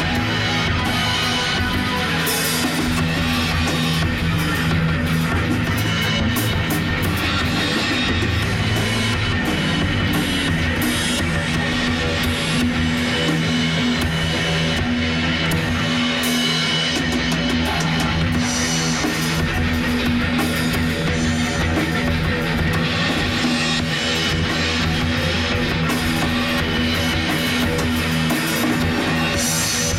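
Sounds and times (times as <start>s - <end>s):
heavy rock electric guitar: 0.0s - 29.9s.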